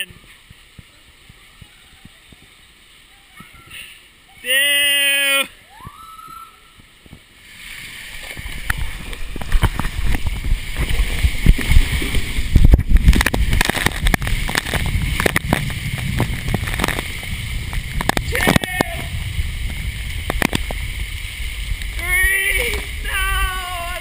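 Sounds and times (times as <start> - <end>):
water rushing in slide tube: 0.0 - 24.0.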